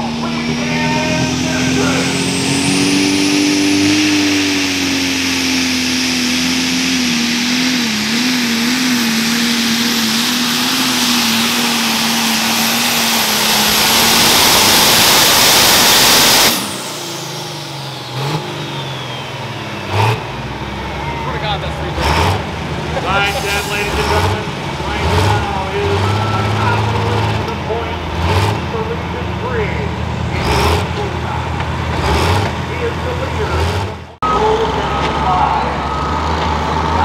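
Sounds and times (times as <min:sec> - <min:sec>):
diesel tractor engine drone: 0:00.0 - 0:37.0
high turbo whine: 0:00.0 - 0:37.0.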